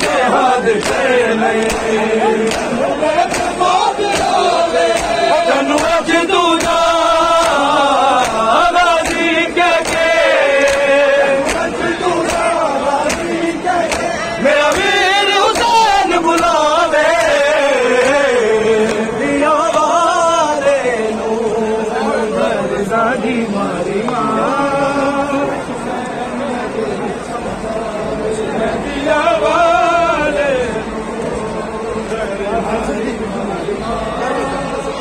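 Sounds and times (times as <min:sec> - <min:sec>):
men chanting a melodic lament: 0:00.0 - 0:35.0.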